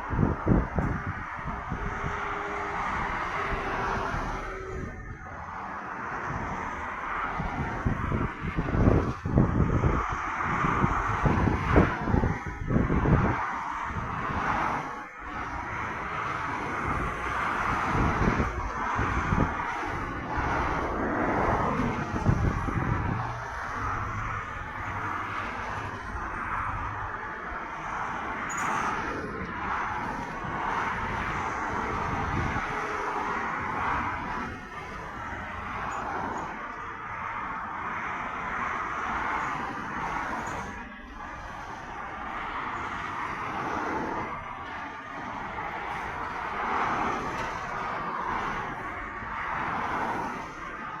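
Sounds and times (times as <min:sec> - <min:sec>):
motorway traffic rushing: 0:00.0 - 0:51.0.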